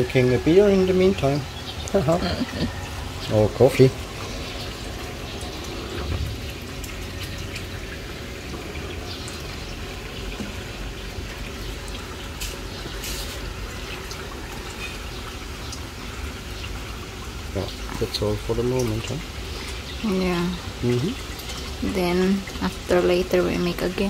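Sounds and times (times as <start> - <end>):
pool water trickling: 0.0 - 24.0.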